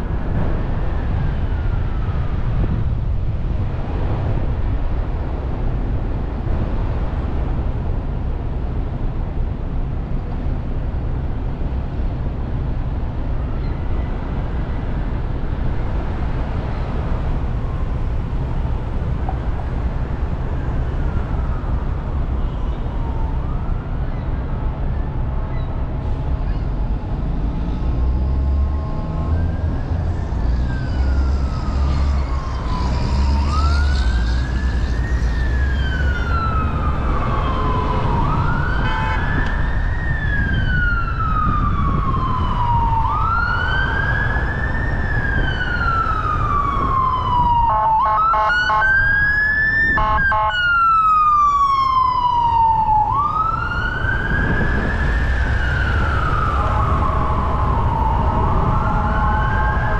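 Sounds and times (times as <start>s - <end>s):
emergency vehicle siren wailing: 0.0s - 7.4s, 13.3s - 59.9s
street traffic rumble: 0.0s - 59.9s.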